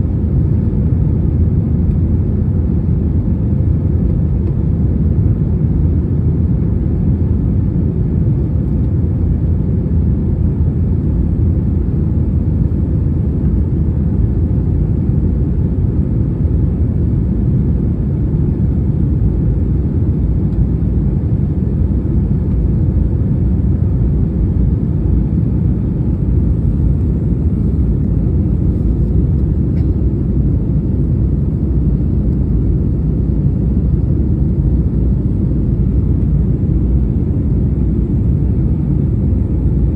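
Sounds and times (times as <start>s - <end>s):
airliner engines rumbling: 0.0s - 39.9s.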